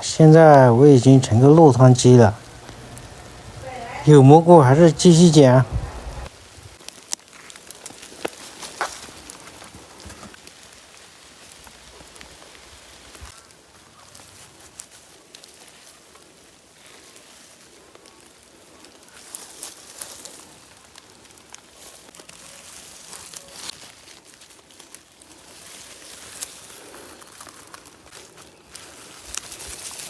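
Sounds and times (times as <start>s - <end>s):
leaves rustling: 0.0s - 30.0s
light rain on foliage: 0.0s - 30.0s.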